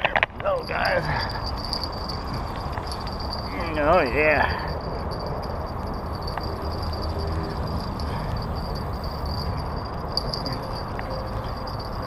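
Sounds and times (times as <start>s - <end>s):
high-pitched insect buzz: 0.9s - 12.0s.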